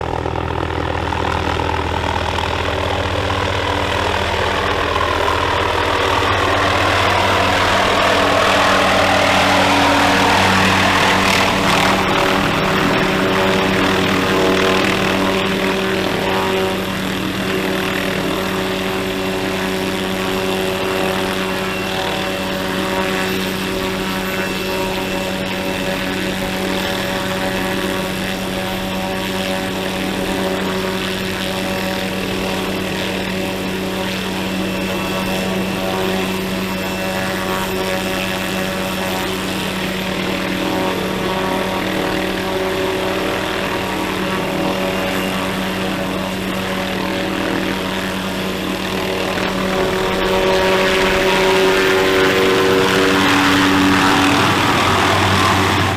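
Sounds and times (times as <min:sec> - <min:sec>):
light helicopter rotor and turbine: 0:00.0 - 0:55.9.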